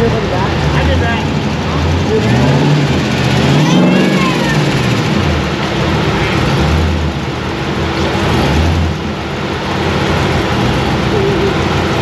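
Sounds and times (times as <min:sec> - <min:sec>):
misfiring engine idling: 0:00.0 - 0:12.0.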